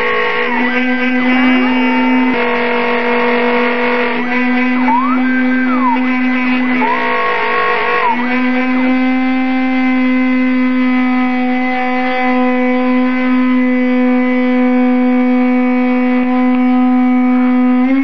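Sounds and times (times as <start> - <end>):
spindle motor whine: 0.0 - 18.0.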